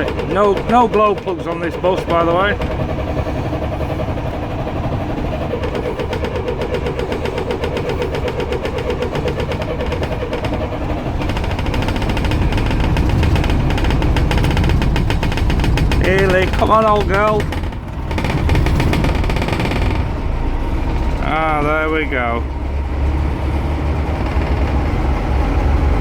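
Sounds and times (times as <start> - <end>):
starter motor cranking diesel engine: 0.0 - 26.0.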